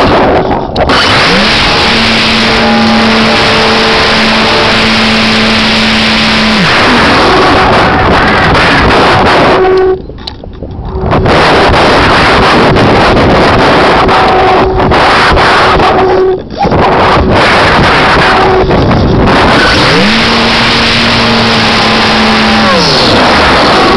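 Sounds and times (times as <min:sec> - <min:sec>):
electric motor and propeller drone: 0:00.0 - 0:09.4, 0:11.5 - 0:23.9
wind buffeting microphone: 0:00.0 - 0:23.9.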